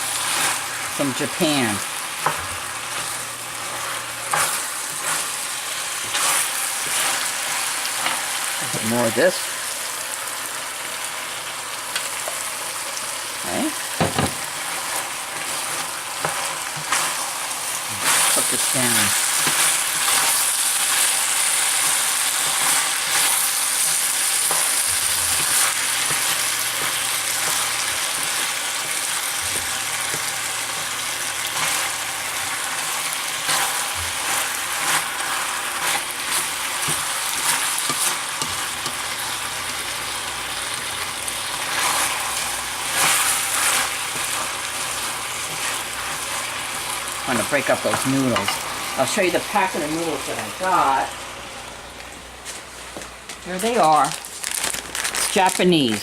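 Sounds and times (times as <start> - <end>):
food sizzling in a wok: 0.0 - 56.0.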